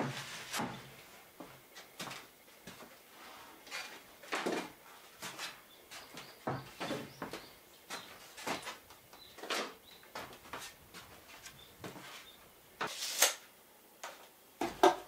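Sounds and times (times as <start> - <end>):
footsteps on wooden floor: 0.0 - 3.0, 3.8 - 12.9.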